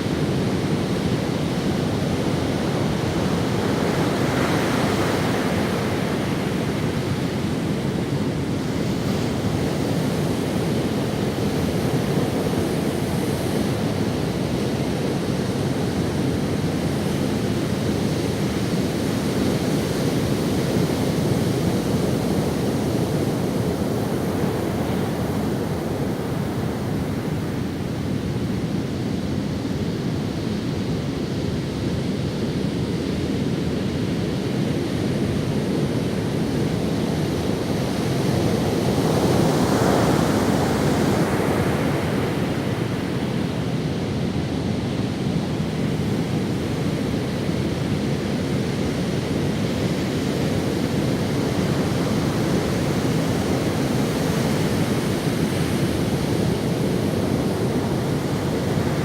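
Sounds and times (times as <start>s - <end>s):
ocean surf washing on beach: 0.0s - 59.0s.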